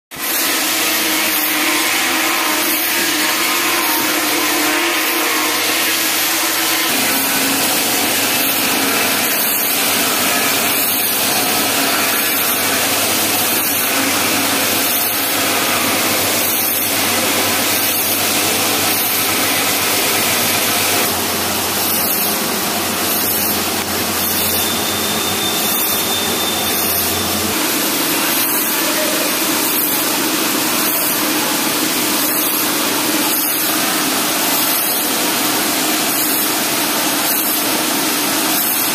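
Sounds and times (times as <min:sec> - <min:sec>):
lathe spindle whirring: 0:00.2 - 0:38.9.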